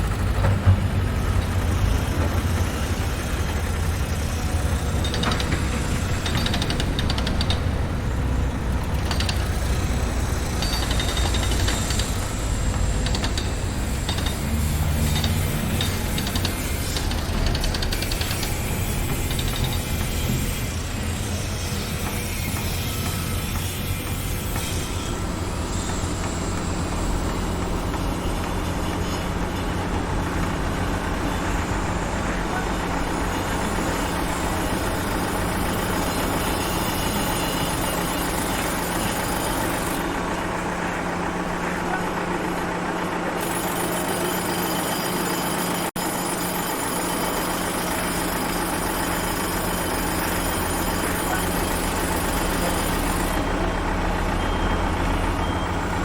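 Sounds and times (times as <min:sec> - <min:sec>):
construction machinery noise: 0:00.0 - 0:56.0
heavy vehicle engine running: 0:00.0 - 0:56.0.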